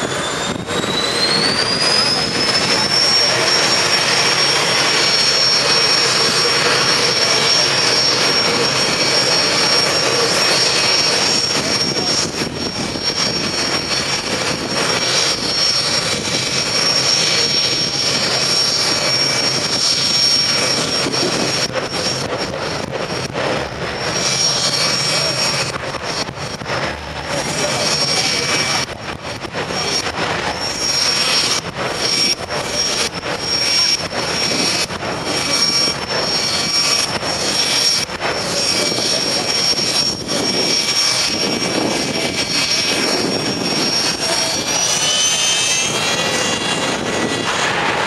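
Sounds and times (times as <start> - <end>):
turbine engine whine: 0.0 - 48.0.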